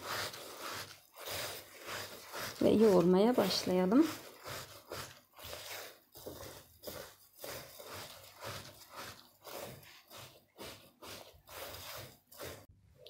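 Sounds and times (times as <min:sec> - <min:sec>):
hands kneading mixture in bowl: 0:00.0 - 0:13.0.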